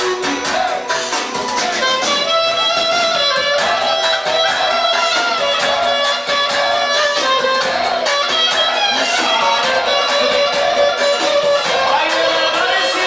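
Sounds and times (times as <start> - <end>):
steady accompaniment: 0.0 - 13.0
plucked string instrument melody: 1.8 - 13.0.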